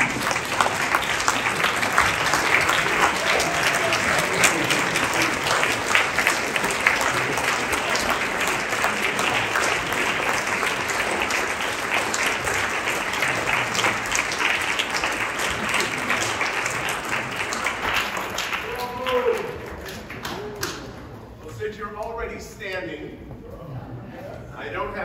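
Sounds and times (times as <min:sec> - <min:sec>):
crowd applauding: 0:00.0 - 0:21.2.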